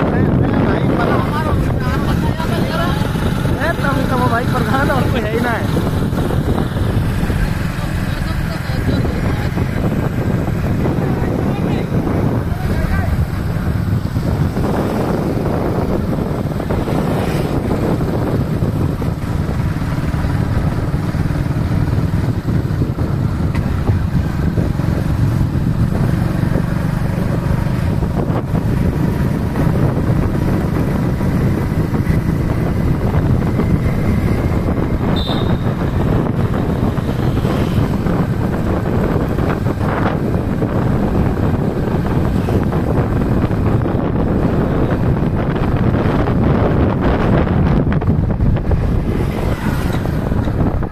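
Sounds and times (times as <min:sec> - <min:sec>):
motorcycle engine and road noise: 0:00.0 - 0:50.9
wind on microphone: 0:00.0 - 0:50.9.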